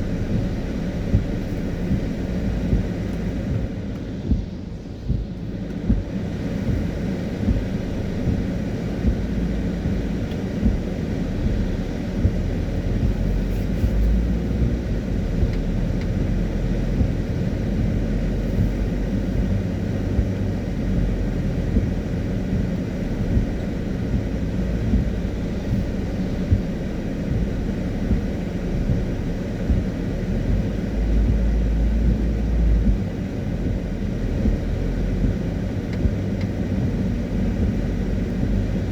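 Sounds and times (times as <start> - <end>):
car driving on wet road: 0.0 - 38.9.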